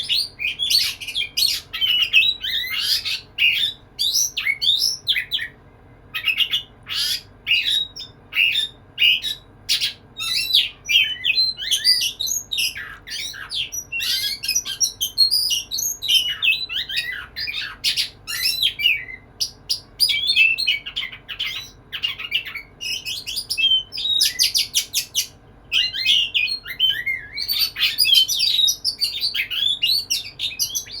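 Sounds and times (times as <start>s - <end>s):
bird singing whistles and trills: 0.0s - 31.0s.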